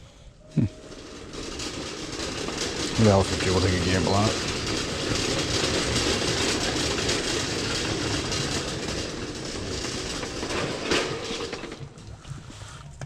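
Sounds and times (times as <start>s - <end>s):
rattling rumble: 0.4s - 13.0s.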